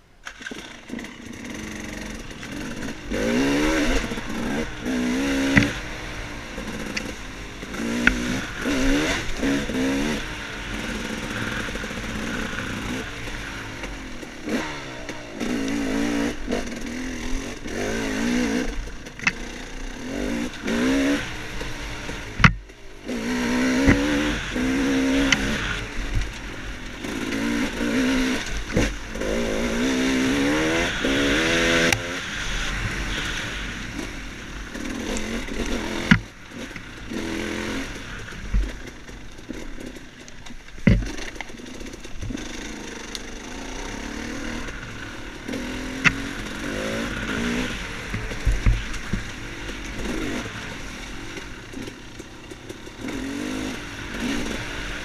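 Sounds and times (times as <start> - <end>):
dirt bike engine revving: 0.2 - 55.0.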